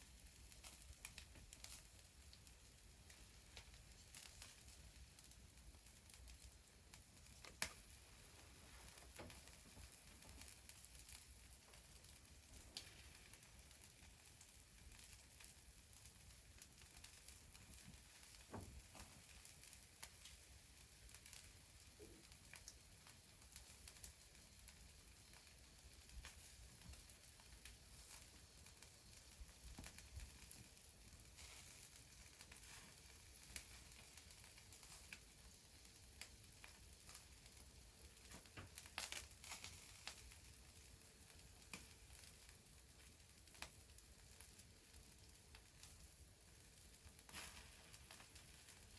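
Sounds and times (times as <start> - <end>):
wood fire crackling faintly: 0.0 - 48.9.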